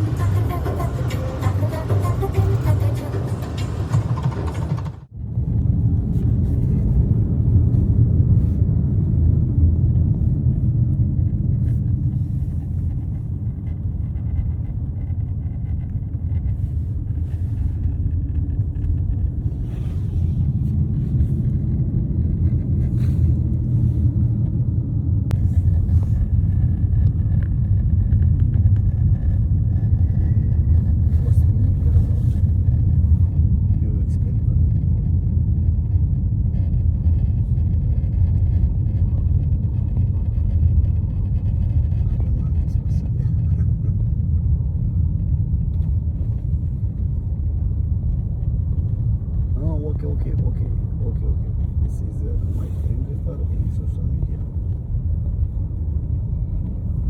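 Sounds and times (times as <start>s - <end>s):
vehicle rumble from inside cabin: 0.0s - 57.0s.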